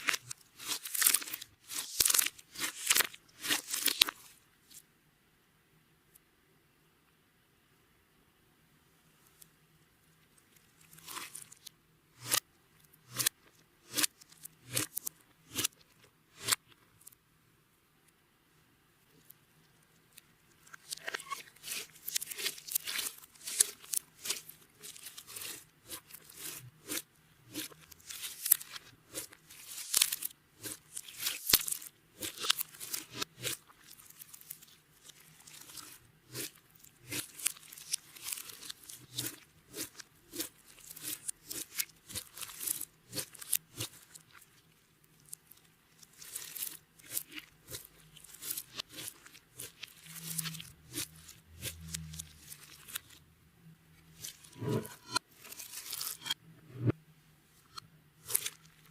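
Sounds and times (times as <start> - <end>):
slime squishing with sticky crackles: 0.0 - 4.8, 10.3 - 17.2, 19.2 - 53.2, 54.0 - 56.9, 57.6 - 58.9.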